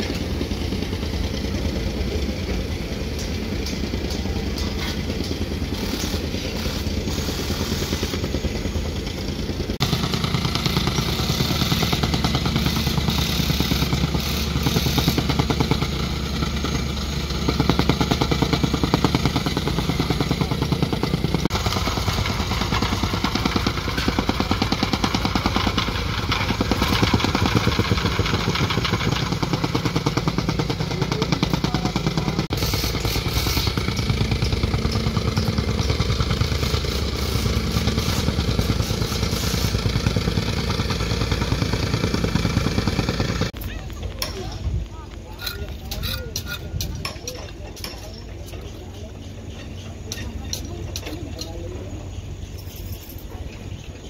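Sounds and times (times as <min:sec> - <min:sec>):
small engines buzzing: 0:00.0 - 0:54.0.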